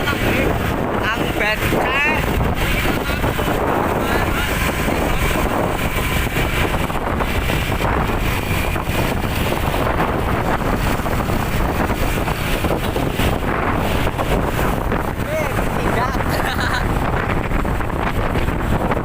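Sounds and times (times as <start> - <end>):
vehicle rumble: 0.0 - 19.0
wind buffeting microphone: 0.0 - 19.0.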